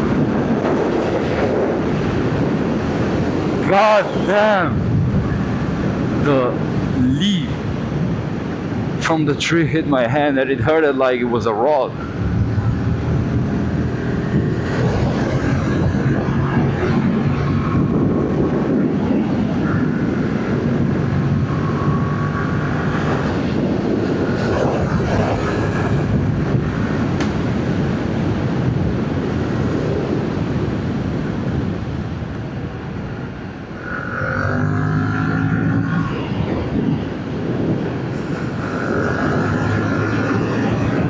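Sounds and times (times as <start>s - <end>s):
wind noise on microphone: 0.0s - 41.0s.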